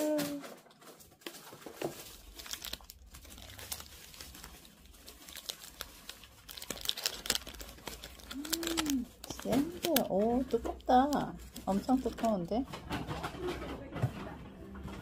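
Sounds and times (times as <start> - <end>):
snack wrapper crinkling and tearing: 0.0 - 12.6.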